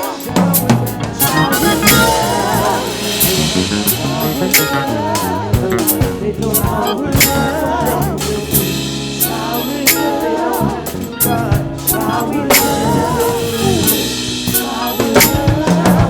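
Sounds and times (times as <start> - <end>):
drum kit hitting accents: 0.0 - 16.0
live gospel band music: 0.0 - 16.0.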